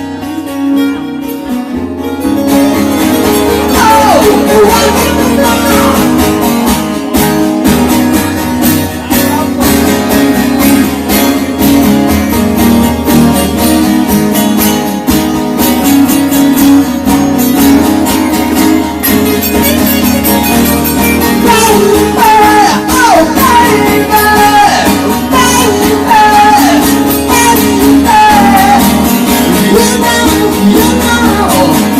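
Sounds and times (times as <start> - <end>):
strummed guitars: 0.0 - 31.9.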